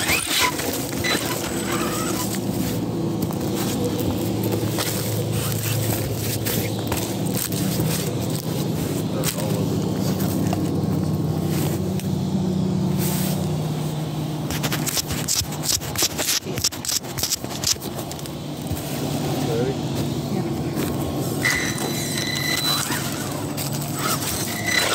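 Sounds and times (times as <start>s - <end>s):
crunching clicks and knocks: 0.0s - 12.2s, 14.4s - 19.3s, 19.9s - 24.9s
low engine drone: 0.0s - 24.9s.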